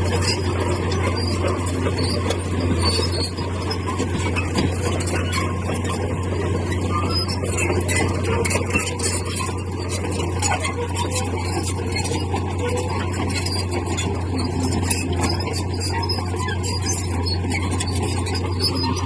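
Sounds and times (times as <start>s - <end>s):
bulldozer diesel engine droning: 0.0s - 19.0s
clicks and clatter: 0.0s - 19.0s.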